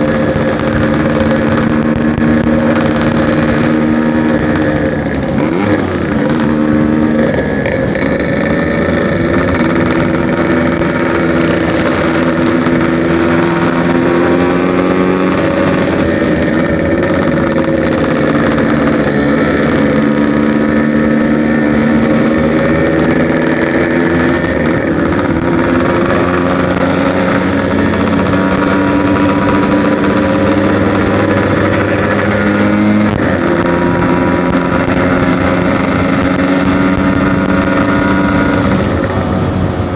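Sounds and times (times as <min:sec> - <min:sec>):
two-stroke motorcycle riding: 0:00.0 - 0:39.9.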